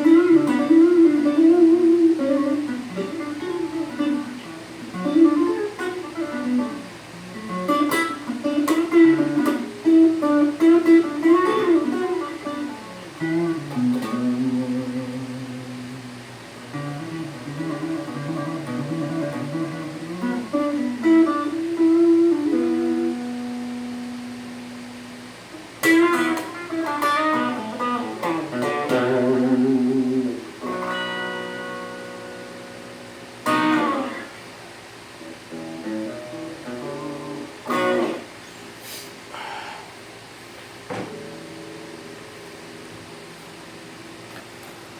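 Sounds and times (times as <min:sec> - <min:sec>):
electric guitar playing: 0:00.0 - 0:44.9.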